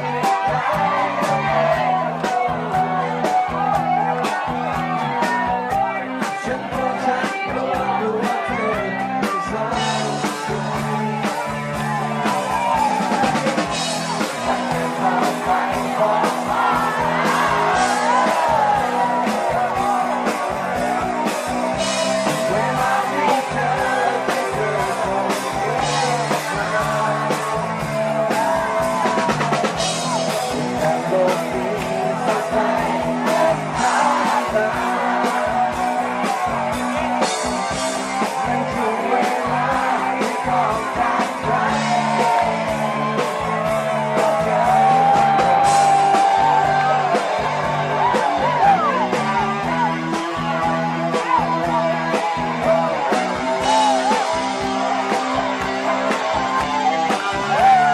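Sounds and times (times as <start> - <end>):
person singing: 0.0 - 57.9
rock band playing: 0.0 - 57.9
steady drum beat: 0.0 - 57.9.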